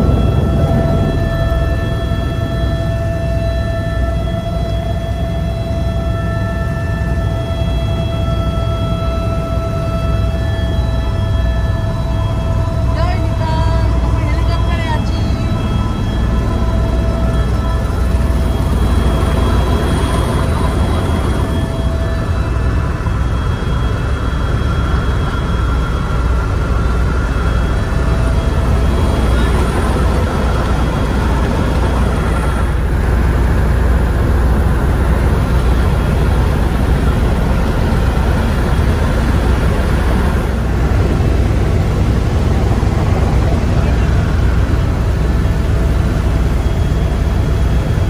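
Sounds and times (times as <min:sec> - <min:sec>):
helicopter rotor and turbine rumble: 0:00.0 - 0:48.0.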